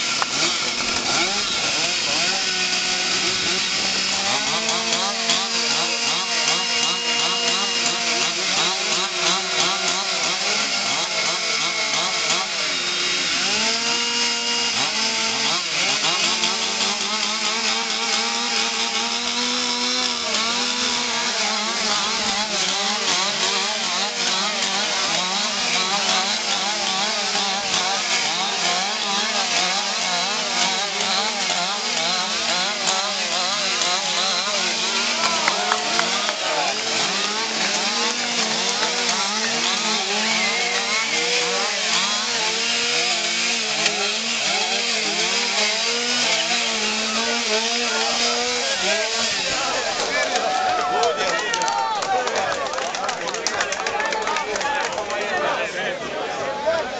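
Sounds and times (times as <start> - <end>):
chainsaws revving: 0.0 - 55.7.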